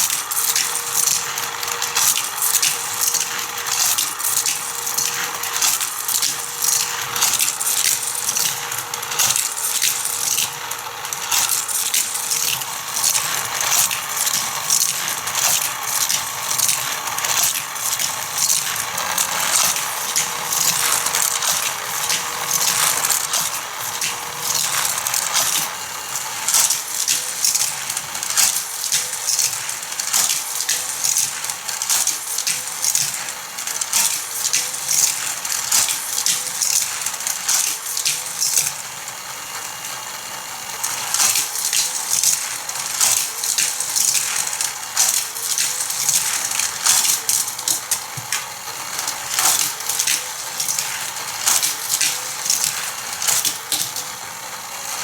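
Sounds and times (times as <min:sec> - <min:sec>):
toy cars rattling on plastic track: 0:00.0 - 0:55.0.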